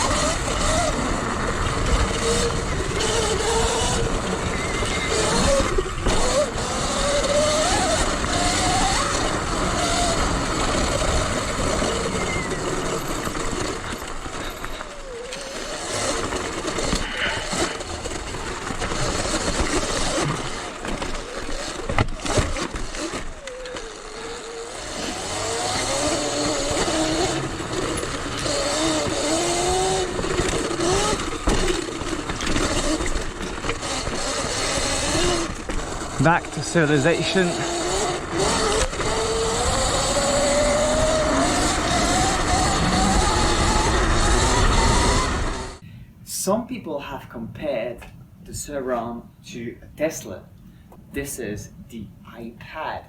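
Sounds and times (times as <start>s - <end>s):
electric motor whine: 0.0s - 45.8s.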